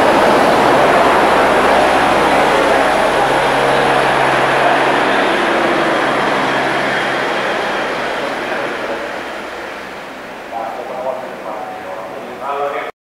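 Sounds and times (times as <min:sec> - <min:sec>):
helicopter flying: 0:00.0 - 0:12.9.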